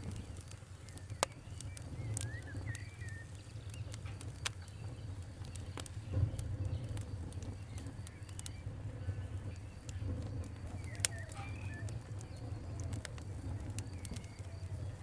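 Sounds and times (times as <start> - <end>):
bird chirping: 0.0 - 15.0
fire crackling: 0.0 - 15.0.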